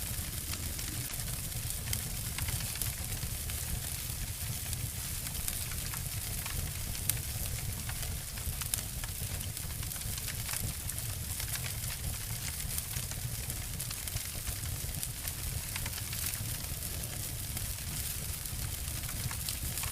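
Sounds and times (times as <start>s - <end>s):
campfire crackling: 0.0s - 19.9s
fireplace fire crackling: 0.0s - 19.9s.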